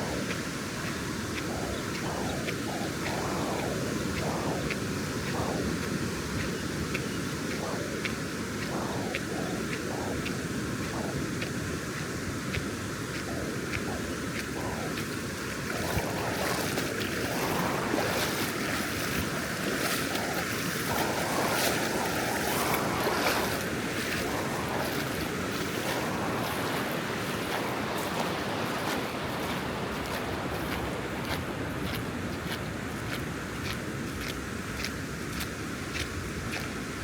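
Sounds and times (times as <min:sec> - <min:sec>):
ocean surf breaking: 0:00.0 - 0:32.9.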